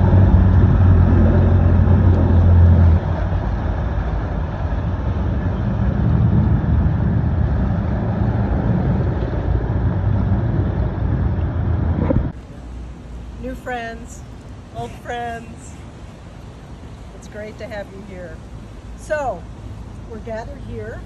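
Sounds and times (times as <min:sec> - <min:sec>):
boat engine drone: 0:00.0 - 0:21.0
propeller wash churning water: 0:00.0 - 0:21.0.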